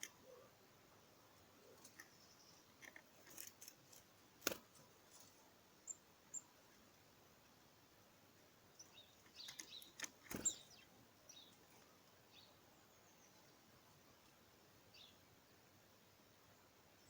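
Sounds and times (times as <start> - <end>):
small birds chirping: 0.0 - 7.7, 8.6 - 15.7.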